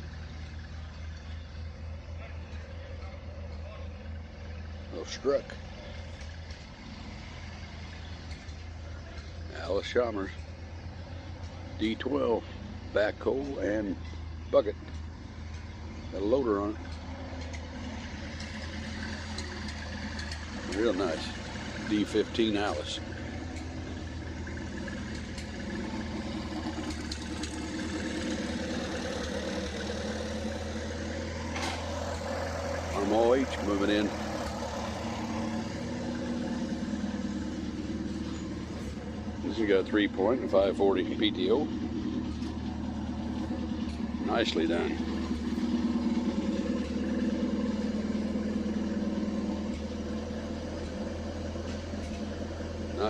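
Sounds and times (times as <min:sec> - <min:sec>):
tractor engine idling: 0:00.0 - 0:53.0.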